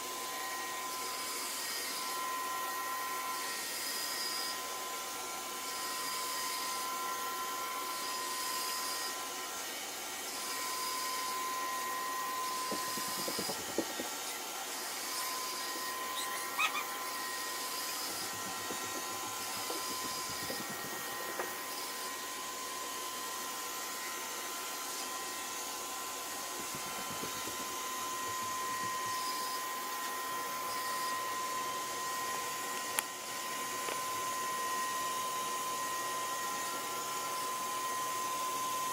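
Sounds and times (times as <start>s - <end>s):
robot vacuum motor whine: 0.0s - 38.9s.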